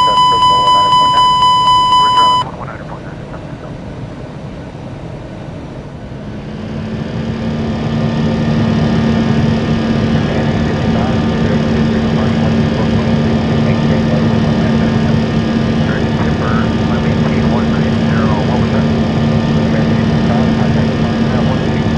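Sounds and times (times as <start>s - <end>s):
jet engines spooling up: 0.0s - 21.9s
steady hum: 0.0s - 21.9s.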